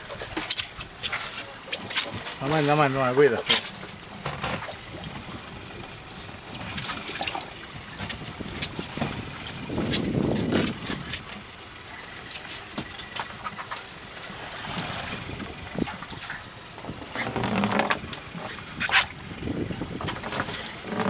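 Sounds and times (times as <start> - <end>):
outboard motors running: 0.0 - 21.0
water wash: 0.0 - 21.0
wind: 0.0 - 21.0.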